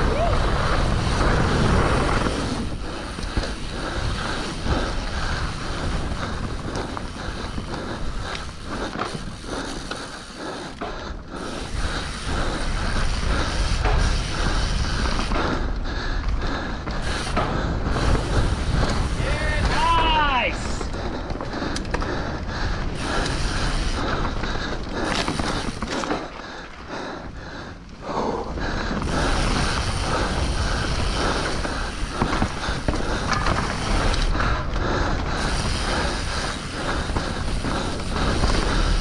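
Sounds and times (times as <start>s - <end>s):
bike tyres rolling over dirt: 0.0s - 39.0s.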